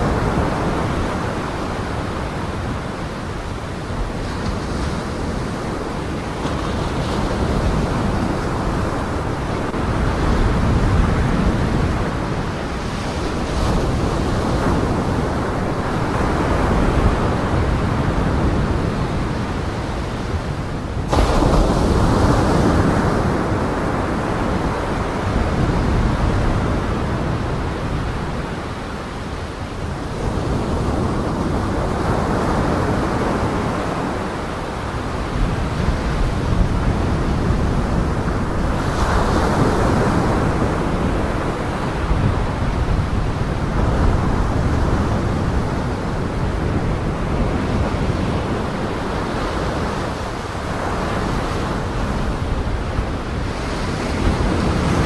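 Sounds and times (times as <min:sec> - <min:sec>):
surf crashing against seawall: 0:00.0 - 0:55.0
wind: 0:00.0 - 0:55.0.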